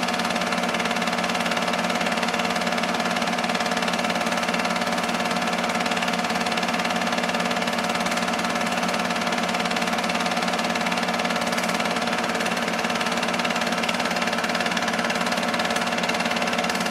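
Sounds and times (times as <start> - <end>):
film projector whirring: 0.0 - 16.9
motor hum: 0.0 - 16.9.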